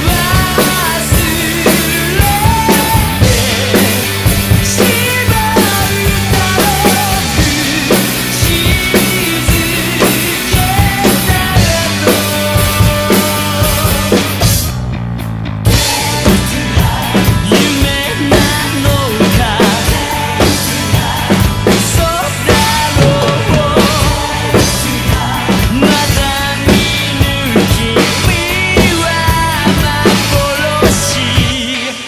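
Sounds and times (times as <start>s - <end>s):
recorded rock song: 0.0s - 32.0s
rock drum kit playing: 0.0s - 32.0s.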